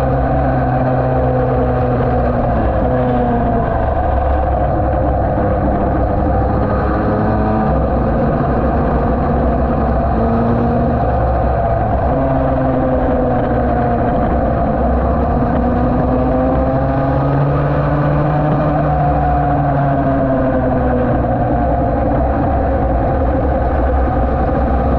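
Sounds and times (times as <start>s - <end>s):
two-stroke racing engine: 0.0s - 24.9s.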